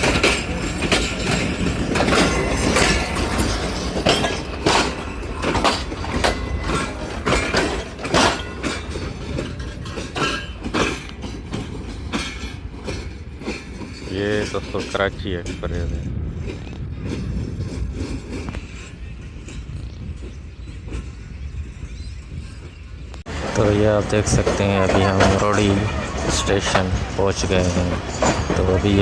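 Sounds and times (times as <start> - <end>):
train low rumble: 0.0 - 29.0
train wheels clacking on track: 0.0 - 29.0.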